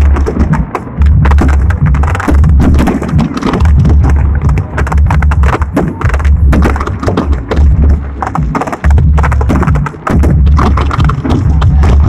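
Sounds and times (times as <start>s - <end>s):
fireworks bangs and crackles: 0.0s - 12.0s
low booming: 0.0s - 12.0s.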